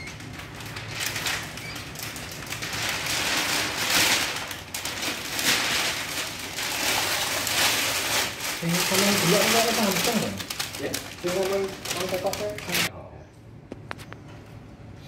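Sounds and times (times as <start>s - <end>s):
plastic film crinkling: 0.0s - 12.9s.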